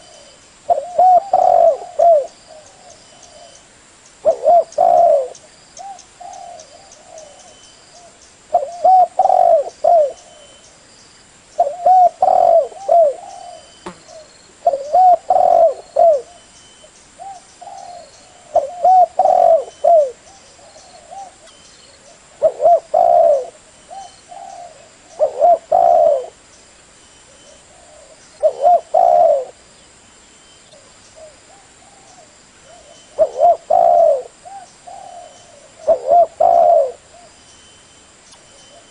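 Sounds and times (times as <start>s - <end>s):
dove cooing: 0.0s - 3.6s, 4.2s - 10.6s, 11.6s - 16.4s, 17.2s - 26.4s, 27.3s - 29.6s, 30.7s - 37.4s.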